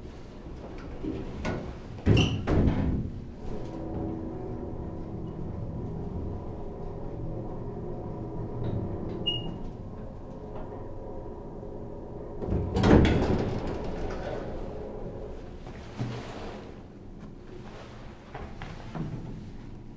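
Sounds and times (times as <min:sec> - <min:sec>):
elevator humming: 0:00.0 - 0:19.9
elevator doors sliding open: 0:00.3 - 0:18.2.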